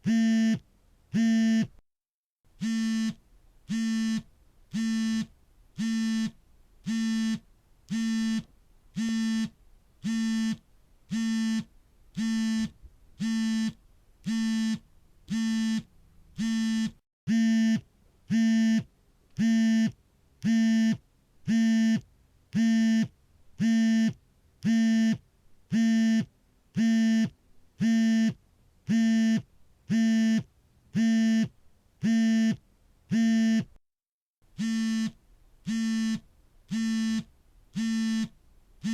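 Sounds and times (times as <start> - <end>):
phone vibrating buzz: 0.0 - 0.6, 1.2 - 1.7, 2.6 - 22.0, 22.6 - 33.8, 34.6 - 38.9.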